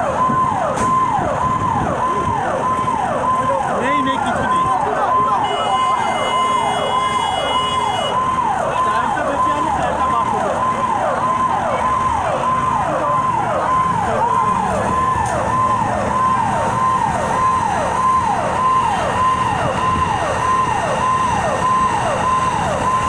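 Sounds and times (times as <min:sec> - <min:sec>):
fire engine siren cycling: 0:00.0 - 0:23.0.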